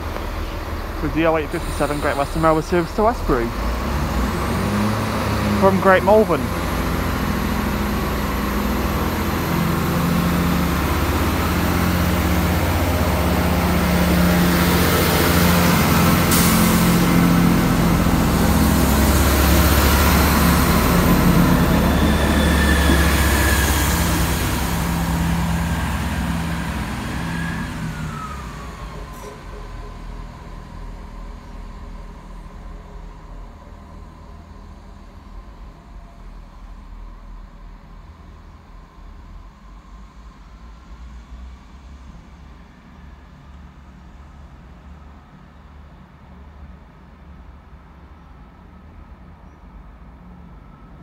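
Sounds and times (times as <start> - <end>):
diesel train engine drone: 0.0 - 51.0.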